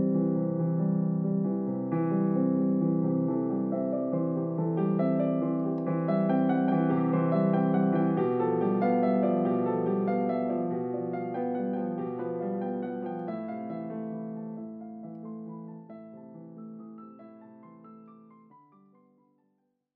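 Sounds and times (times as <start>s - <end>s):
slow piano chords: 0.0s - 19.2s.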